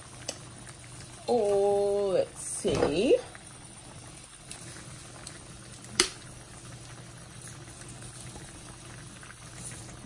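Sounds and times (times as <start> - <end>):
liquid simmering in a skillet: 0.0 - 10.0.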